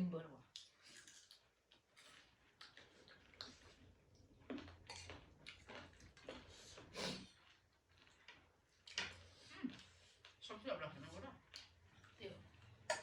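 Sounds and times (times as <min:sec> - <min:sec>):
chewing mouth clicks and smacks: 0:00.4 - 0:10.4, 0:11.4 - 0:13.0.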